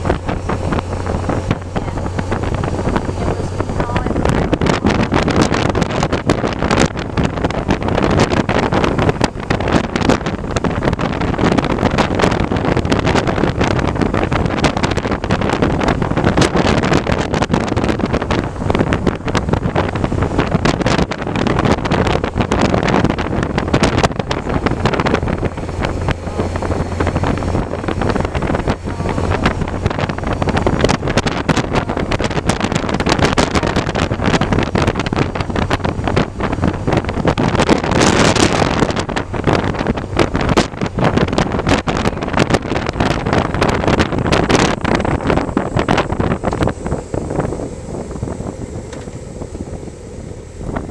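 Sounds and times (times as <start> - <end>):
low steady hum: 0.0 - 50.9
wind buffeting microphone: 0.0 - 50.9.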